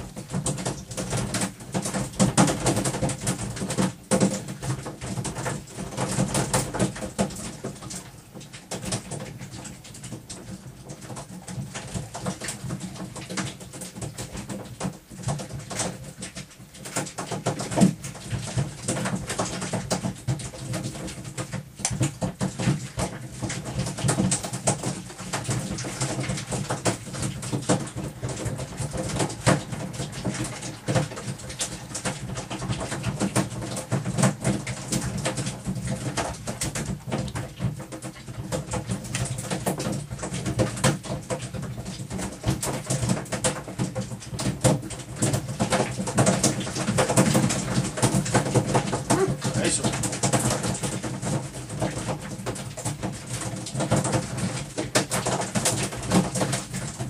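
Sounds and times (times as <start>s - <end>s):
small knocks and rattles: 0.0s - 57.0s.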